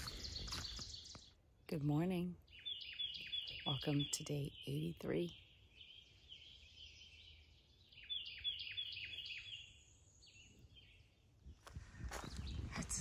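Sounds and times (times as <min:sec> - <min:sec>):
thin high-pitched birdsong: 0:00.0 - 0:01.5, 0:02.1 - 0:13.0
birds chattering: 0:00.0 - 0:13.0.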